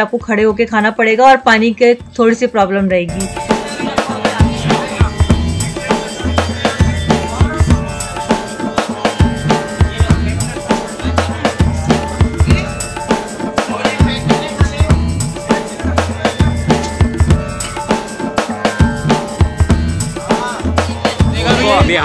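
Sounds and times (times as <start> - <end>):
drum kit beat: 0.0 - 22.0
bass line: 2.6 - 22.0.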